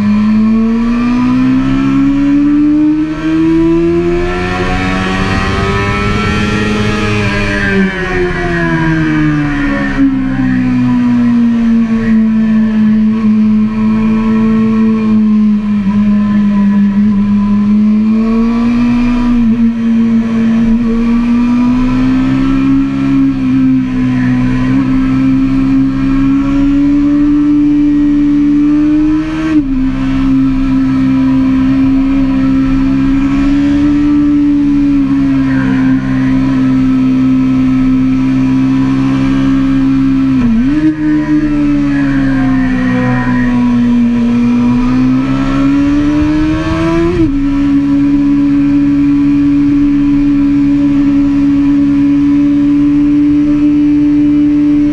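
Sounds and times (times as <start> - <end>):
motorcycle engine running hard: 0.0 - 54.9.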